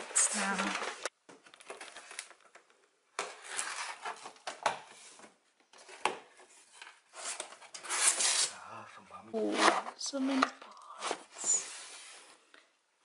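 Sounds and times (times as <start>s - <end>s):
cardboard rustling and scraping: 0.0s - 2.3s, 3.2s - 8.5s, 9.4s - 12.5s.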